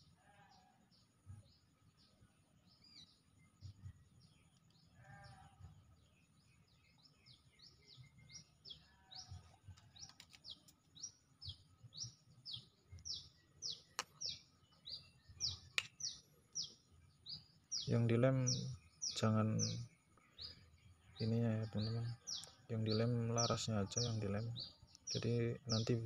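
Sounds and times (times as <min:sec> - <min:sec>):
bird chirping: 0:00.9 - 0:26.0.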